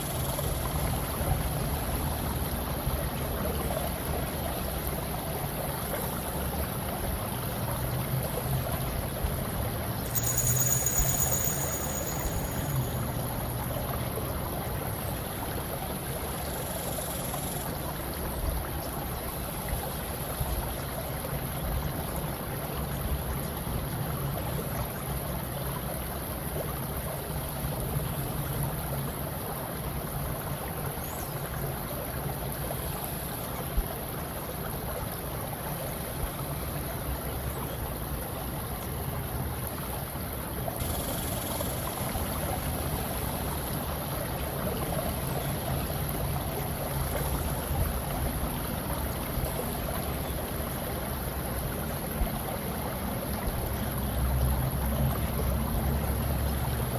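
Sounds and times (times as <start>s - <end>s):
rushing water: 0.0s - 16.6s, 17.6s - 56.9s.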